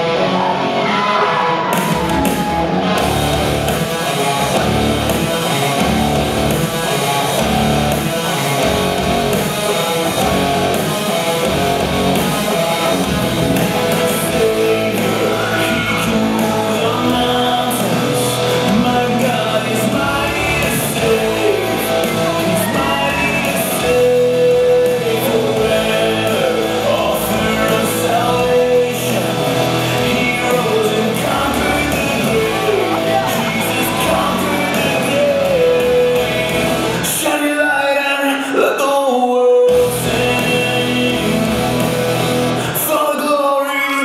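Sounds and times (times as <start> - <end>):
rock worship song over loudspeakers: 0.0 - 44.0.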